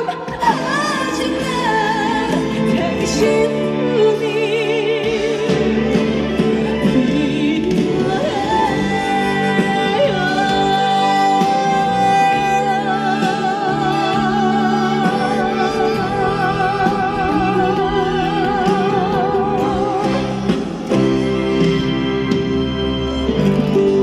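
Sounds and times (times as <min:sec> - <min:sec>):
band playing sustained chords: 0:00.0 - 0:24.0.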